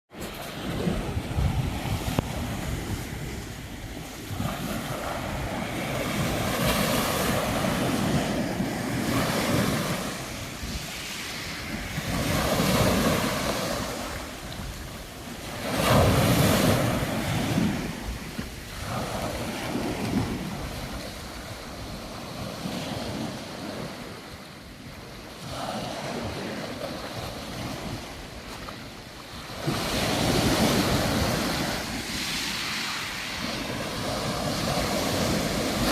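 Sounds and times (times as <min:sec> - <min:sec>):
sea waves breaking: 0:00.1 - 0:35.9
wind rumbling on microphone: 0:00.1 - 0:35.9.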